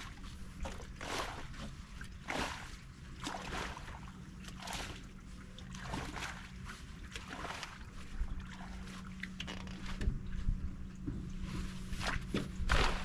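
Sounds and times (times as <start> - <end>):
low wind rumble: 0.0 - 13.0
water slapping against boat hull: 0.0 - 13.0.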